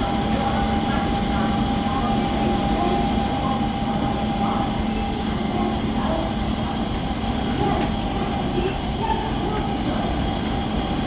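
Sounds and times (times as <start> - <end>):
faint voices: 0.0 - 11.0
mechanical hum with whine: 0.0 - 11.0.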